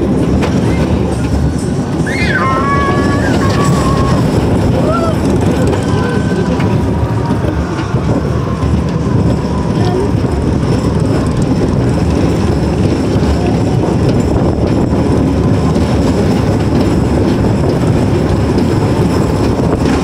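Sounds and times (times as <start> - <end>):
roller coaster rumbling and rattling: 0.0 - 20.0.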